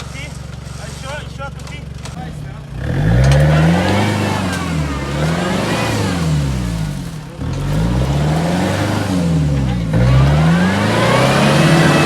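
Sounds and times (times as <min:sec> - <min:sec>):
suv engine revving: 0:00.0 - 0:12.0.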